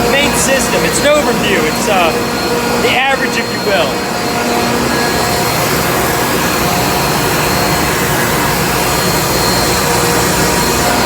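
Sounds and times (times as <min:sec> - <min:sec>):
refrigeration compressors running: 0:00.0 - 0:11.0.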